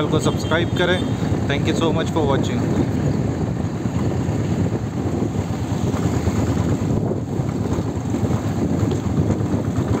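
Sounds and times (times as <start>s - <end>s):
road vehicle rumble: 0.0s - 10.0s
wind buffeting microphone: 0.0s - 10.0s.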